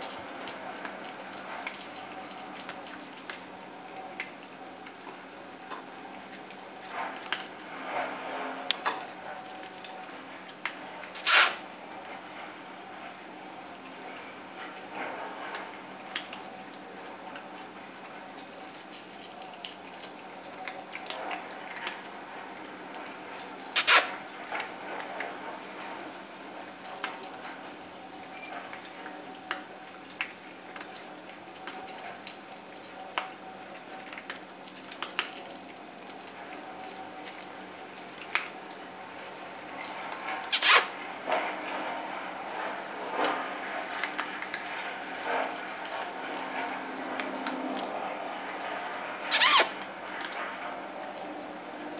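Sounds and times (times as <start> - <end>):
cats crunching dry kibble: 0.0 - 51.9.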